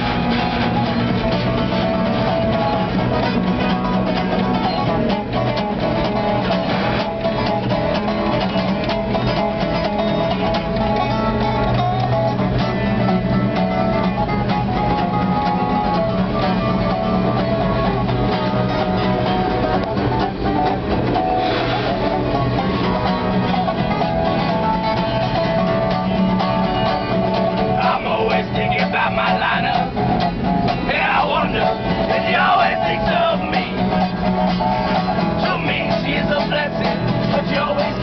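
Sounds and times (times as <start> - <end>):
acoustic guitars playing blues: 0.0 - 38.0
freight car rumble and rattle: 0.0 - 38.0.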